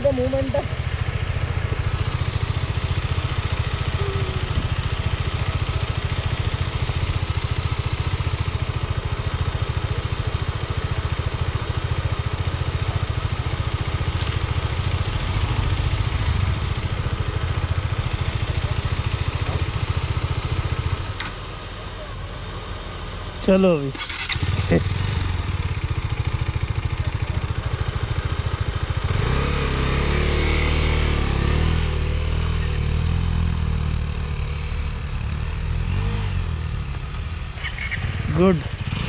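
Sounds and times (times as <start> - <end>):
another motorcycle: 0.0 - 39.0
motorcycle engine idling: 0.0 - 39.0.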